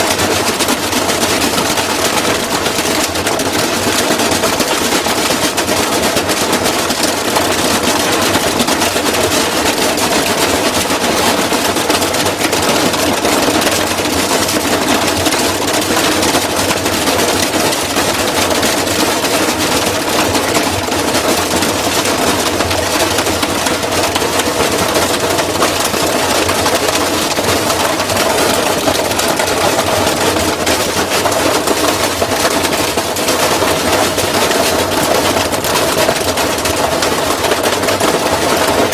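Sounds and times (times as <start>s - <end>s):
washing machine drum spinning: 0.0s - 38.9s.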